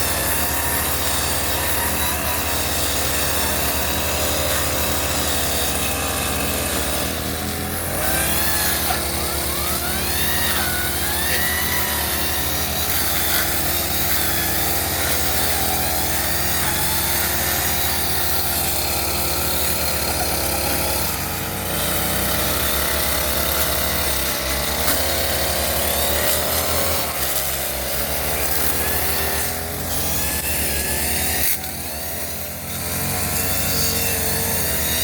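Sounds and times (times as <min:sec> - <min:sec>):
brush cutter engine revving: 0:00.0 - 0:35.0.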